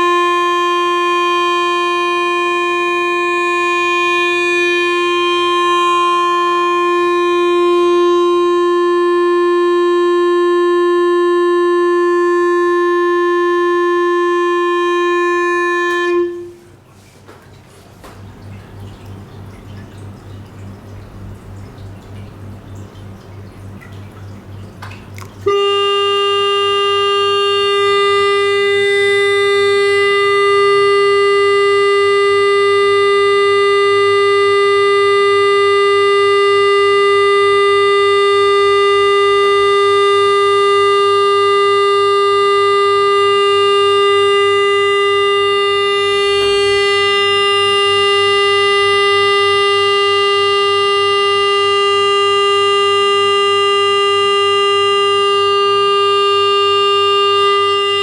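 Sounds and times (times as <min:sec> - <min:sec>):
electronic test tone: 0:00.0 - 0:16.8, 0:25.2 - 0:58.0.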